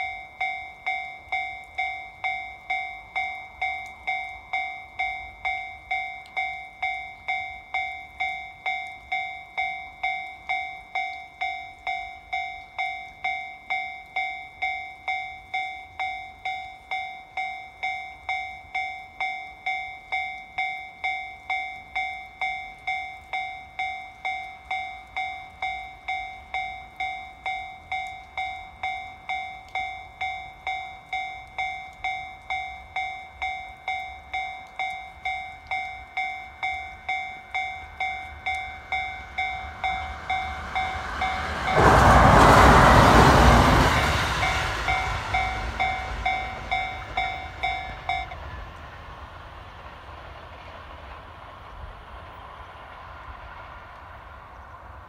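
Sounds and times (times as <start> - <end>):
level crossing alarm dinging: 0.0 - 48.4
electric train passing: 0.0 - 55.0.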